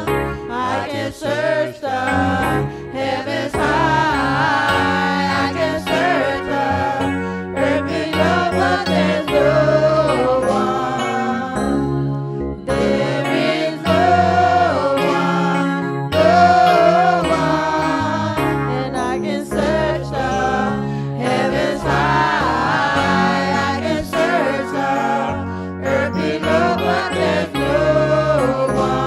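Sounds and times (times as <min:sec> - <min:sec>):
instrumental backing with bass: 0:00.0 - 0:29.0
voices singing gospel: 0:00.0 - 0:29.0.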